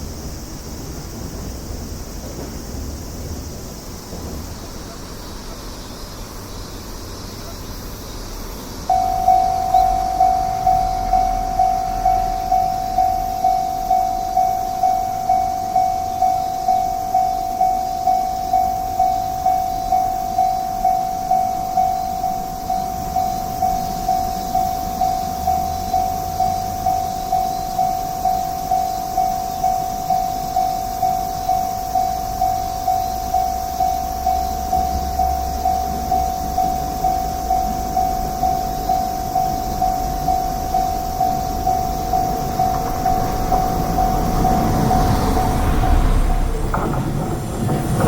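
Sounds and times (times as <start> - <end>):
level crossing warning bell: 8.8 - 48.0.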